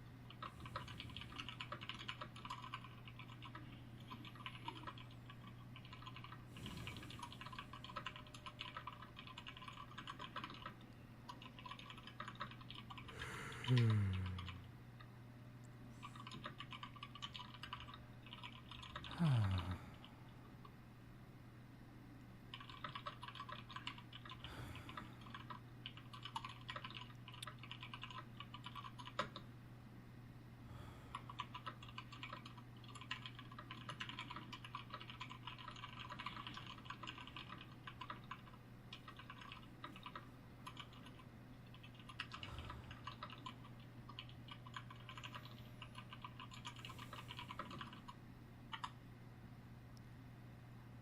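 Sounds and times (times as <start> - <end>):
steady low hum: 0.0 - 22.8, 24.0 - 51.0
computer keyboard typing: 0.3 - 14.6, 16.0 - 19.6, 22.5 - 29.5, 31.1 - 49.0.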